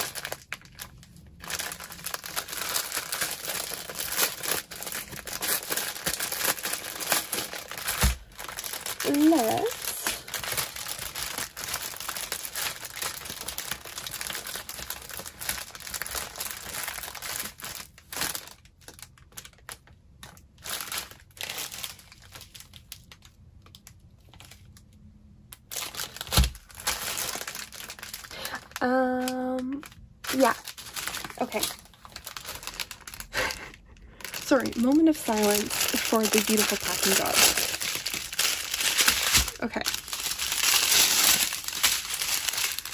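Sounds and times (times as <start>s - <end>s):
plastic packaging crinkling: 0.0s - 42.9s.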